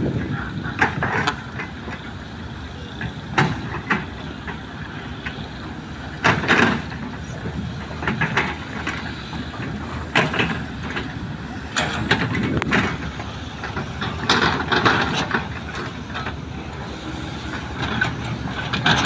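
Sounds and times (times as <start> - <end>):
excavator diesel engines rumbling: 0.0 - 19.0.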